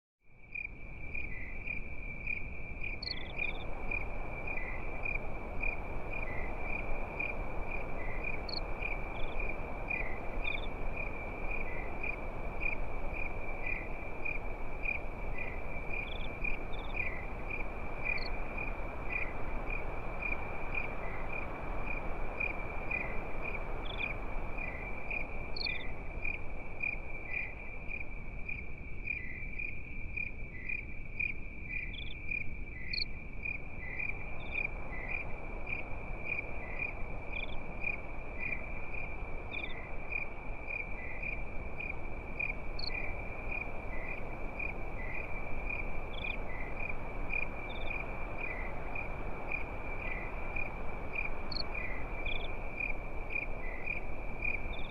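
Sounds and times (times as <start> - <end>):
night ambience hiss: 0.3 - 54.9
crickets chirring: 0.4 - 54.9
insects chirping: 0.4 - 54.9.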